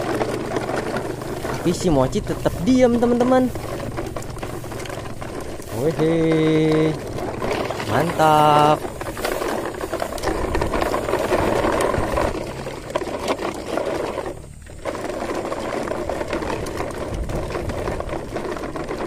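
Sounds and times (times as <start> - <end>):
toy truck rattling over gravel: 0.0 - 19.0.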